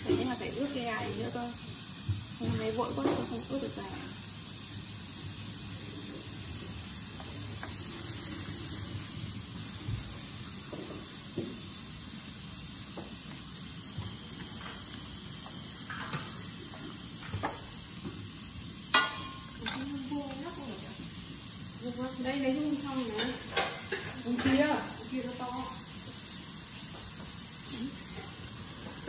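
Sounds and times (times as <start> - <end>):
chicken sizzling in a wok: 0.0 - 29.0.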